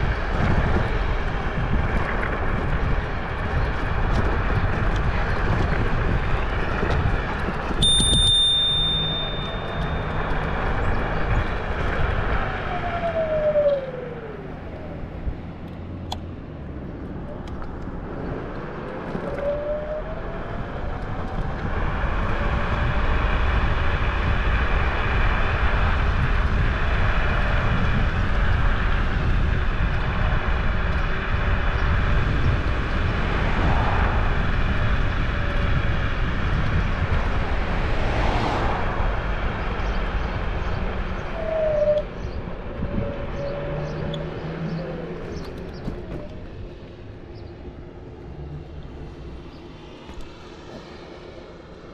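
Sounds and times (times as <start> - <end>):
vehicle engine and rushing noise: 0.0 - 51.9.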